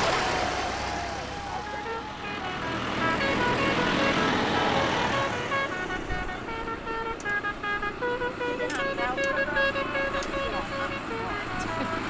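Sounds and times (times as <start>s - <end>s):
musical horn tune: 0.0s - 12.0s
tractor engines passing: 0.0s - 12.0s.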